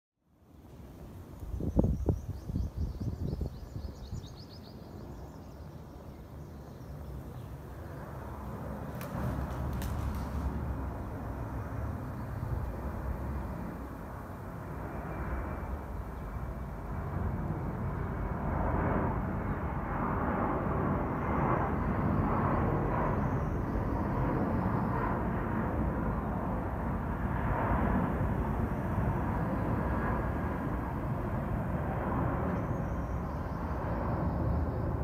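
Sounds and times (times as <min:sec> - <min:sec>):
jet plane rumble overhead: 0:00.2 - 0:35.0.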